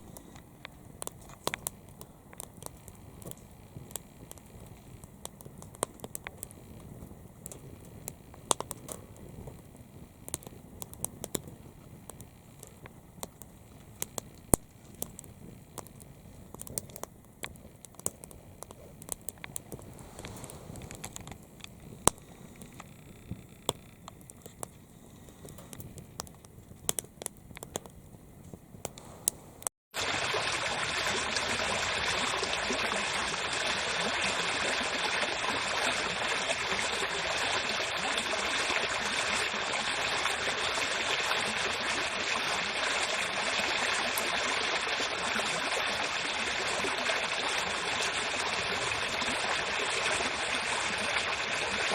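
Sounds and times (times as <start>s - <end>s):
firewood crackling and popping: 0.0s - 51.9s.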